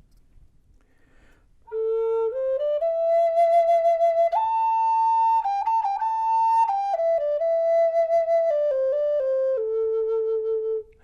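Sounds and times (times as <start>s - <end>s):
flute melody: 1.7s - 11.0s.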